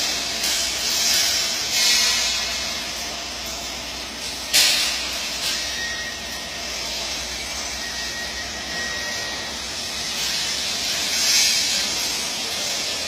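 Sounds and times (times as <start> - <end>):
welding arc sizzling: 0.0 - 13.0.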